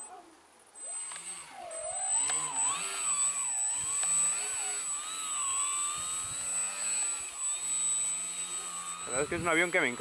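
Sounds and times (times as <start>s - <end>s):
electric motor and propeller whining: 0.8s - 10.0s.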